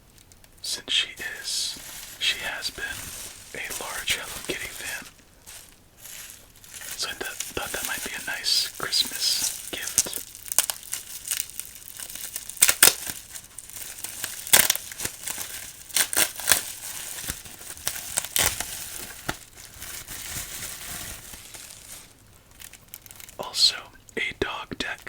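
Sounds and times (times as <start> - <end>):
plastic packaging crinkling: 0.1 - 25.0.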